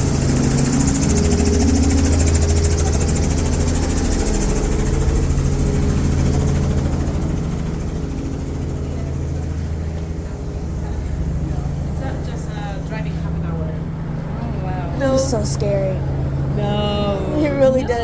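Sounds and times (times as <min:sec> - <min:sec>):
helicopter engine and rotor: 0:00.0 - 0:18.0.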